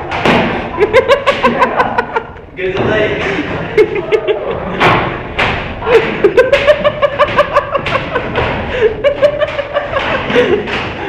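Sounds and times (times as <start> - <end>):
young people laughing: 0.6 - 5.2, 5.8 - 11.0.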